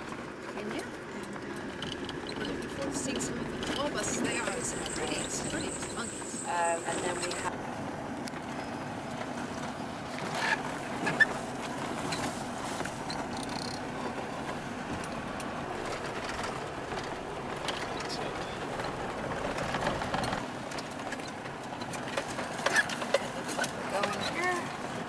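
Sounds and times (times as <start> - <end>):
vehicle cabin rumble and road noise: 0.0 - 25.0.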